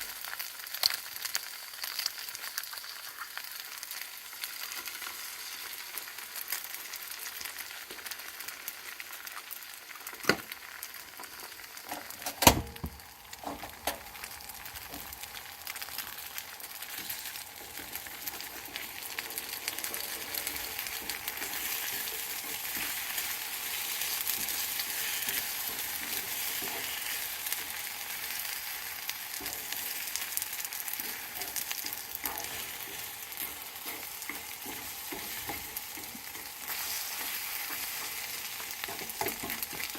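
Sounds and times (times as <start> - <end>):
stir-fry sizzling in a frying pan: 0.0 - 39.9.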